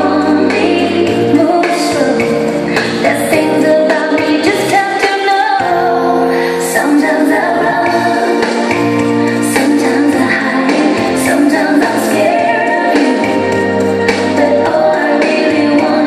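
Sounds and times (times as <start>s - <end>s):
latin dance music with singing: 0.0s - 16.0s.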